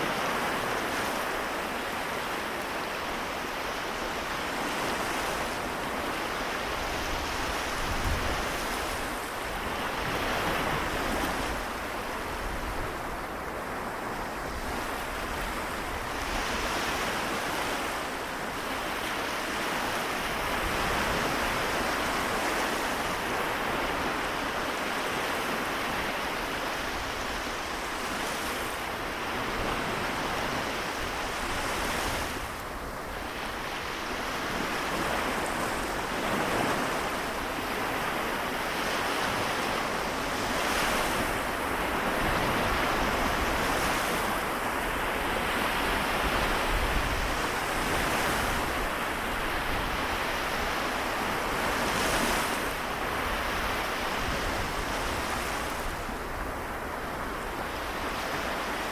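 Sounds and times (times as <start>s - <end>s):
small waves washing on shore: 0.0s - 58.9s
wind on microphone: 3.0s - 58.9s.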